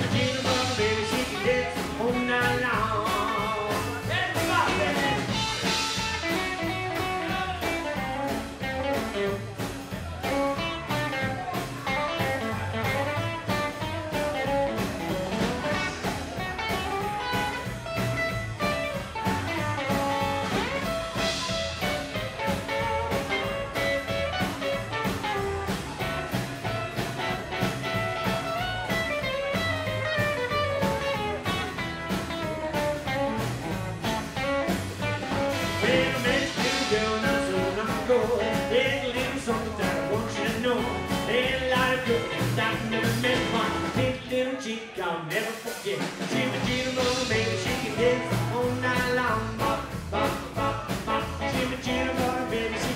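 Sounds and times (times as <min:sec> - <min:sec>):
drum kit steady beat: 0:00.0 - 0:44.4, 0:45.3 - 0:52.9
upright double bass: 0:00.0 - 0:44.4, 0:46.2 - 0:52.9
electric and acoustic guitars: 0:00.0 - 0:52.9.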